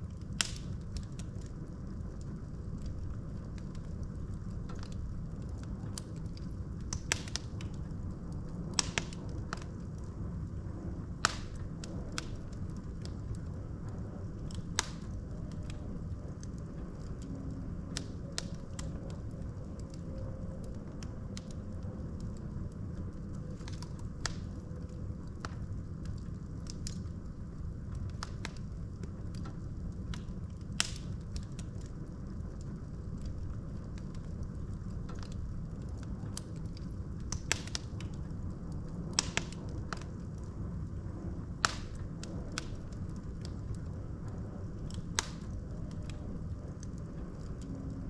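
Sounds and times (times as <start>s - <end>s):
burning logs crackling and popping: 0.0s - 48.0s
low rumble of flames: 0.0s - 48.0s.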